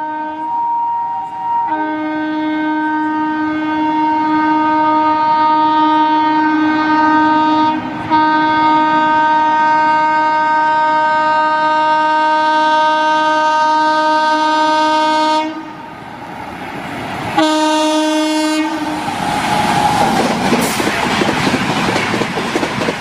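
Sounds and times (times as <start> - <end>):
locomotive horn blast: 0.0 - 15.9, 17.3 - 20.1
train running noise: 0.0 - 23.0.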